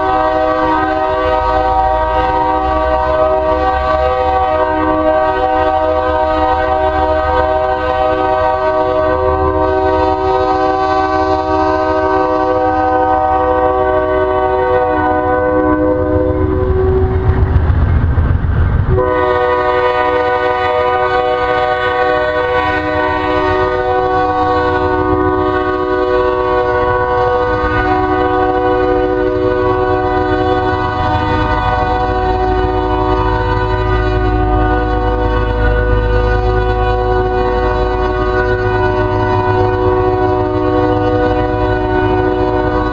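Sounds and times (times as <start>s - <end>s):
locomotive air horn chord: 0.0s - 17.4s, 18.9s - 42.9s
train rumbling and clattering: 0.0s - 42.9s.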